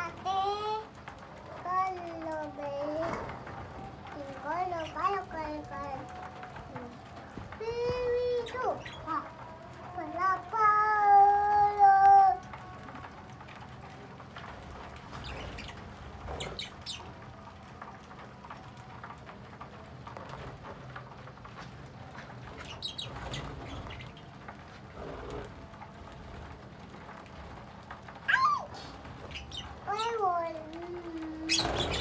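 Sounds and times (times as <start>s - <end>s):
birds chirping faintly: 0.0s - 32.0s.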